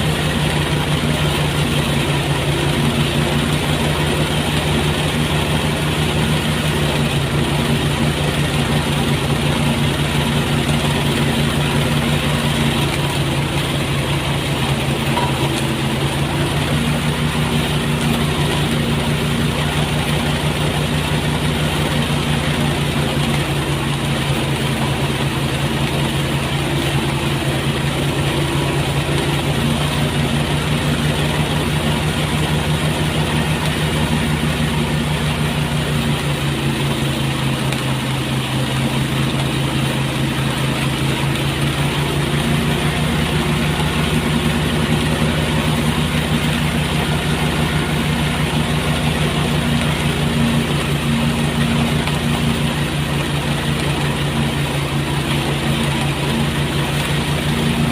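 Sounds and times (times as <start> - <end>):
rattling rush of threshing: 0.0 - 57.9
threshing machine engine running: 0.0 - 57.9.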